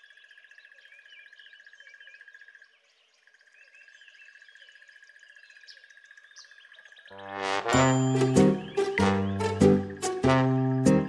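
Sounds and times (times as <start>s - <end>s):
small birds chirping: 0.0s - 7.3s, 7.9s - 11.0s.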